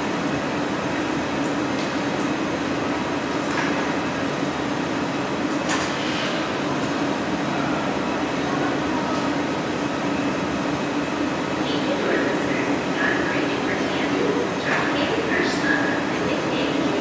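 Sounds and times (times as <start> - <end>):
gas burners and fans roaring: 0.0 - 17.0.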